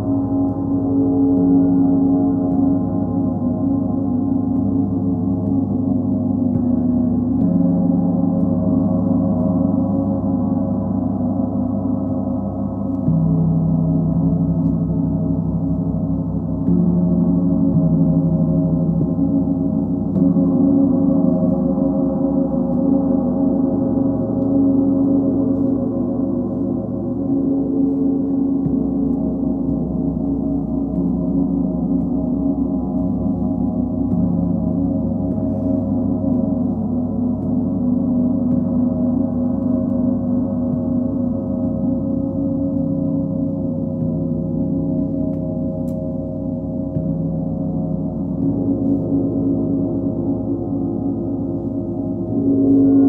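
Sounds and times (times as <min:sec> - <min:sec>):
large gongs ringing: 0:00.0 - 0:53.0.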